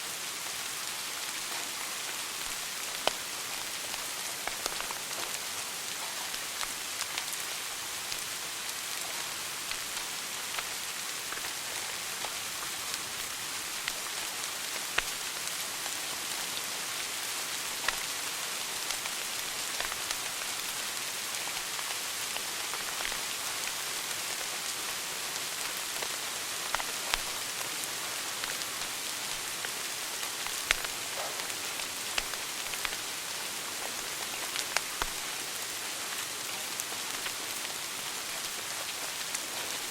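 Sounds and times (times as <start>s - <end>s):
wood fire crackling: 0.6s - 39.9s.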